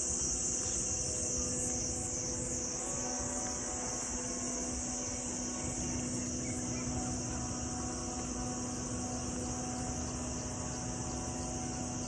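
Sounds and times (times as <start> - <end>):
high-pitched insect buzzing: 0.0 - 12.0
low hum: 0.0 - 12.0.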